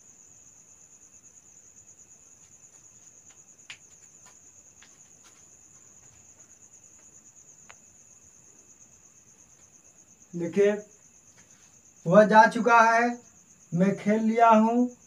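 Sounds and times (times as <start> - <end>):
insect trilling: 0.0 - 15.0.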